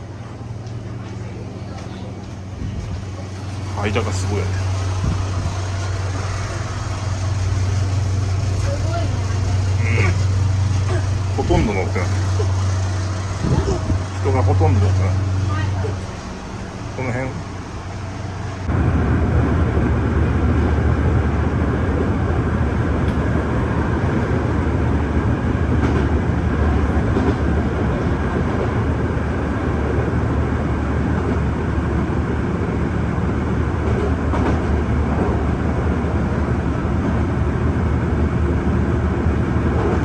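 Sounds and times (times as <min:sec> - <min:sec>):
train coach rumbling on rails: 0:00.0 - 0:40.0.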